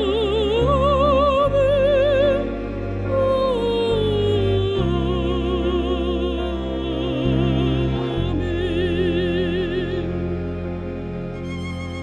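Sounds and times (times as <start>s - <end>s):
low sustained accompaniment: 0.0s - 12.0s.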